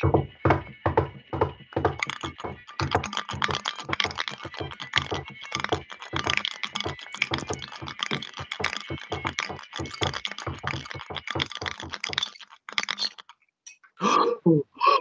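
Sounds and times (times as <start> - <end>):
clattering taps and knocks: 0.0 - 13.9.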